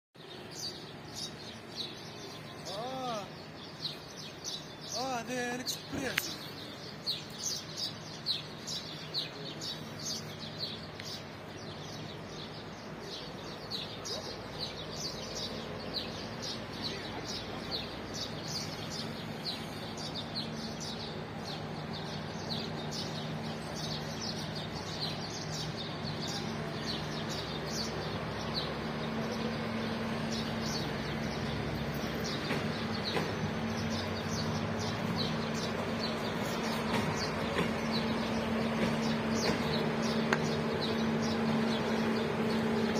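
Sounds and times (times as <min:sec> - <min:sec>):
diesel locomotive drone: 0:00.2 - 0:42.9
small birds chirping: 0:00.2 - 0:42.9.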